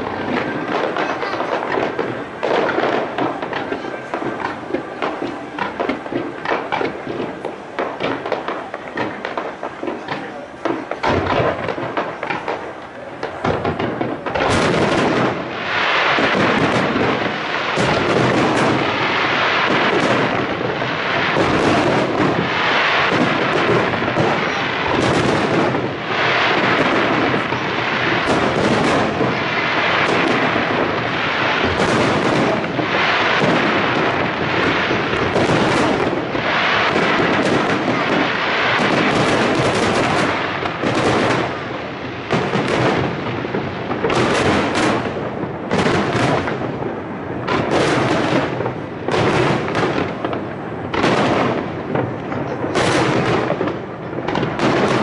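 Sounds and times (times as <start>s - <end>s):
firework shells bursting: 0.0s - 55.0s.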